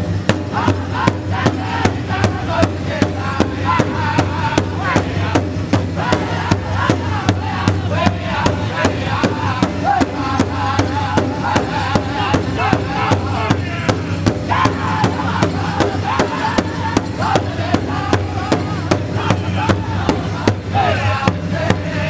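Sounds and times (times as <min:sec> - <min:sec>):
large hide drum beating: 0:00.0 - 0:22.0
high-pitched group singing: 0:00.4 - 0:22.0.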